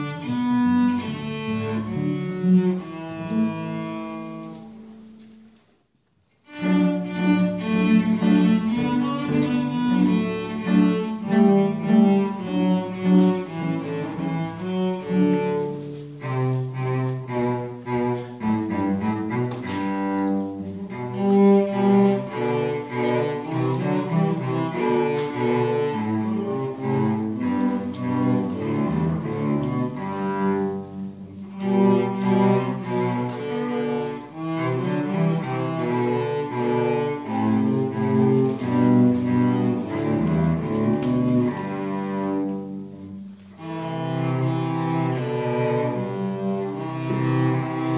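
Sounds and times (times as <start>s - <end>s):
cello duet: 0.0s - 47.9s.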